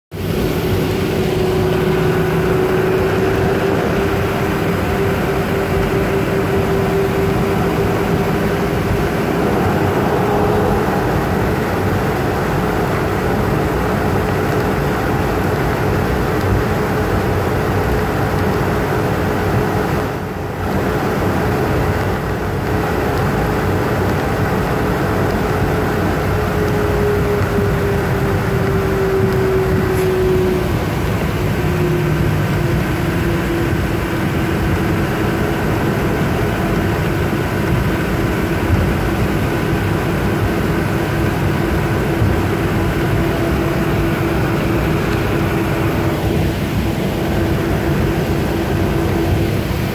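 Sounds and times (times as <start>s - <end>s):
jet engines whining: 0.1s - 49.9s.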